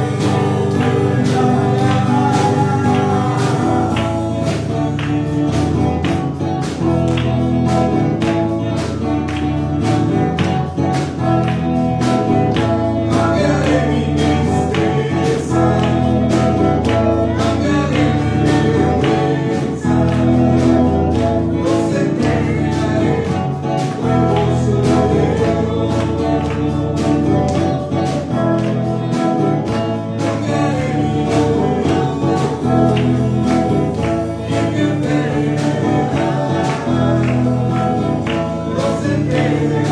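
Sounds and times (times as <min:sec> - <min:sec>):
man singing into a microphone: 0:00.0 - 0:05.8, 0:12.8 - 0:39.9
instrumental accompaniment with beat: 0:00.0 - 0:39.9.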